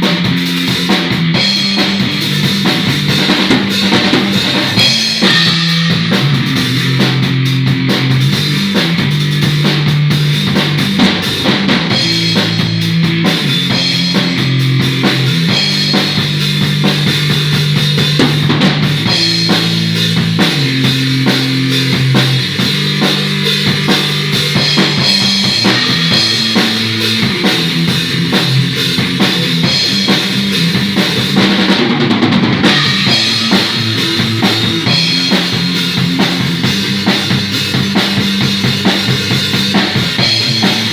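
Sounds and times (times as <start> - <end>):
drum kit playing steady beat: 0.0 - 40.9.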